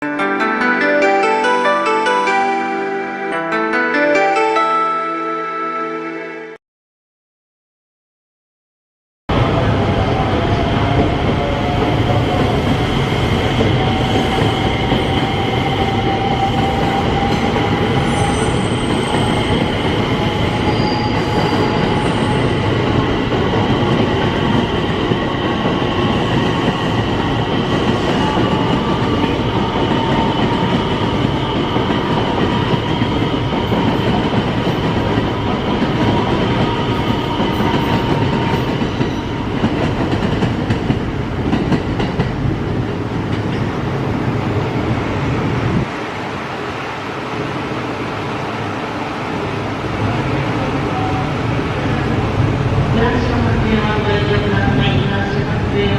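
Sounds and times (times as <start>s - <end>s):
train wheels rumbling on track: 9.3s - 55.9s.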